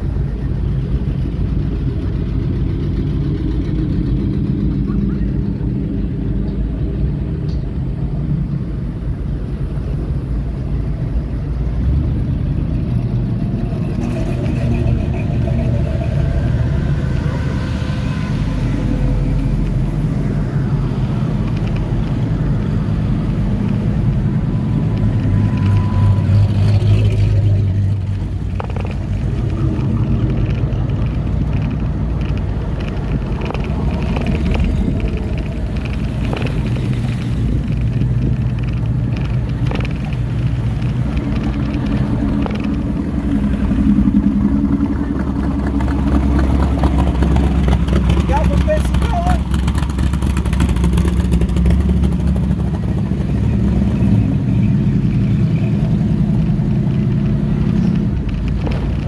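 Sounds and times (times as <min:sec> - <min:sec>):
car engine low rumble: 0:00.0 - 0:59.0
road noise: 0:00.0 - 0:59.0.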